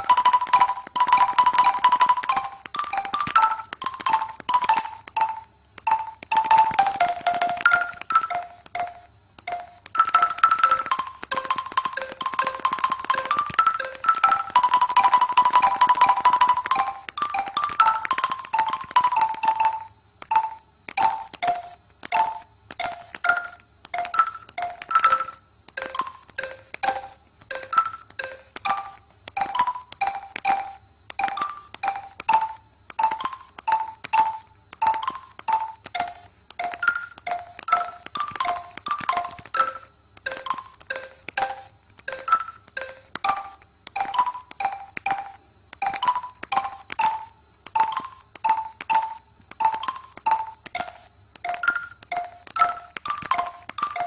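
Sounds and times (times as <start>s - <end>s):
phone keypad beeps: 0.0s - 54.0s.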